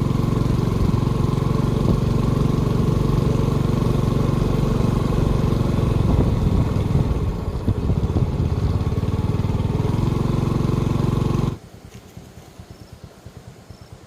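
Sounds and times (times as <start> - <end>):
low pulsing: 0.0 - 11.6
engine running: 0.0 - 14.0.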